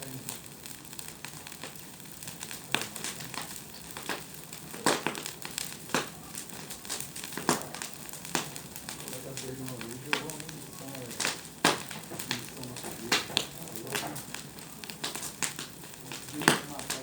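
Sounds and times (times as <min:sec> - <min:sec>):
bonfire crackling: 0:00.0 - 0:17.0
fire popping: 0:00.0 - 0:17.0.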